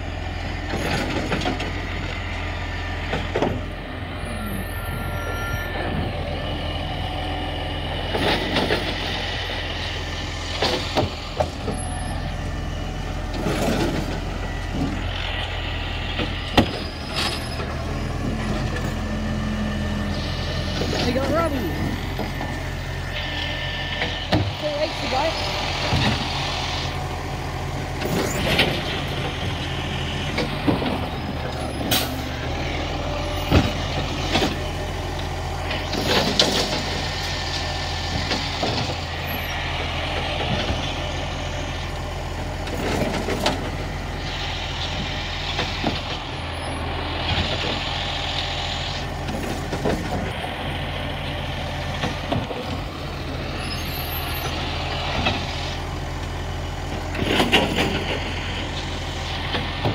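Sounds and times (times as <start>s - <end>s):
recycling truck running: 0.0s - 59.9s.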